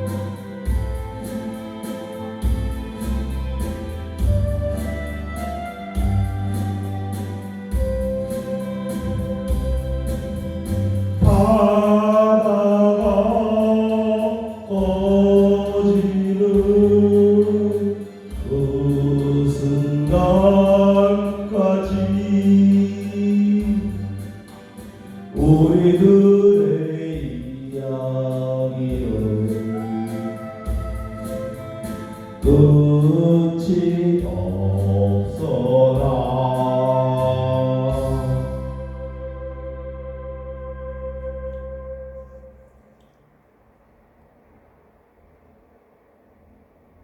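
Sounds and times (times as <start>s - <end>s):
low pulsing accompaniment: 0.0s - 43.0s
singing voice holding long notes: 2.9s - 42.6s.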